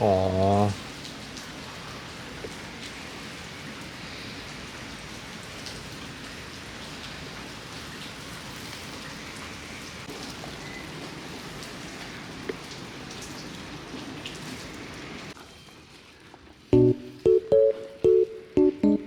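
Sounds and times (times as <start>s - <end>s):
rain falling: 0.0s - 18.7s
raindrops ticking on surfaces: 0.0s - 19.0s.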